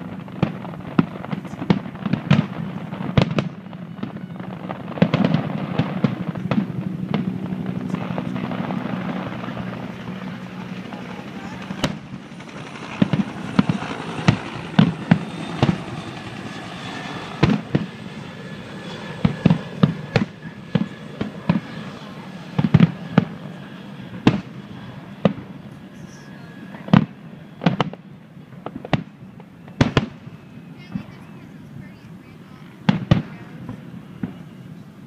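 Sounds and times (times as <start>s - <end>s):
fireworks bursting: 0.0s - 34.7s
steady low hum: 4.4s - 35.0s.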